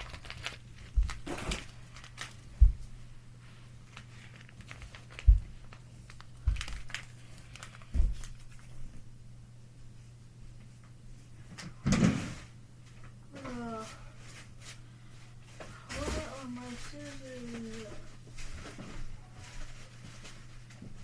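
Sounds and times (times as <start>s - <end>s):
crinkling and handling noises: 0.0s - 9.0s, 10.6s - 21.0s.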